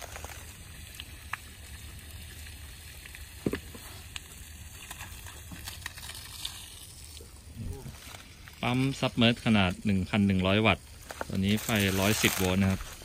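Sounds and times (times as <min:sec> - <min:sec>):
water spraying from pipe: 0:00.0 - 0:13.0.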